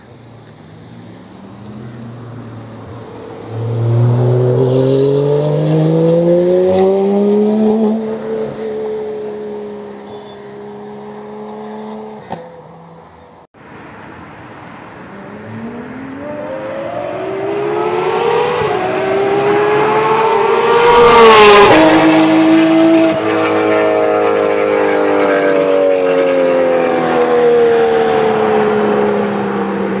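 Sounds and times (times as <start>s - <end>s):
sports car passing by: 0.5s - 13.3s, 14.4s - 30.0s.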